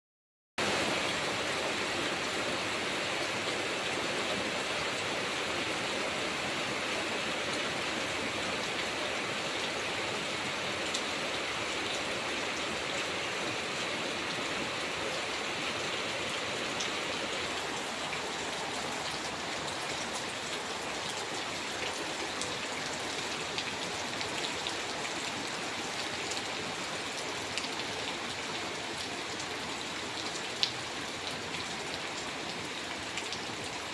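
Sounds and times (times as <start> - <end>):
steady rain hiss: 0.6 - 33.9.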